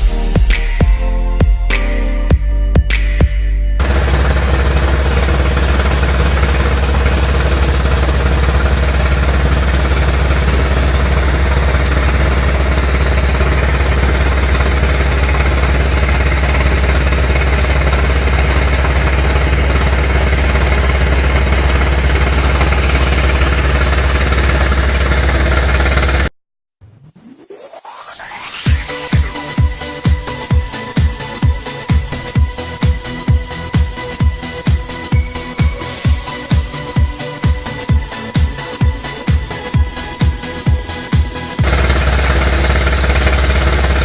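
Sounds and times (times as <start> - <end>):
large engine running: 3.6 - 26.3, 28.7 - 44.0.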